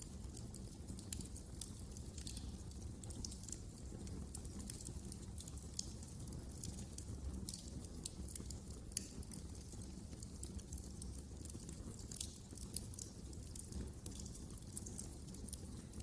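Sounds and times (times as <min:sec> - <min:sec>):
fire pops and snaps: 0:00.0 - 0:16.0
wood fire crackling: 0:00.0 - 0:16.0.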